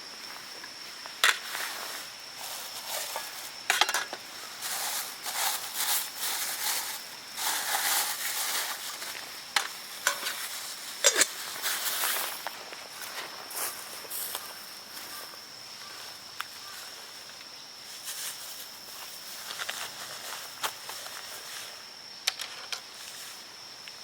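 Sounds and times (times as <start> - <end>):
high-pitched insect drone: 0.0 - 23.8
crackling and rustling: 0.4 - 15.2, 16.4 - 23.4.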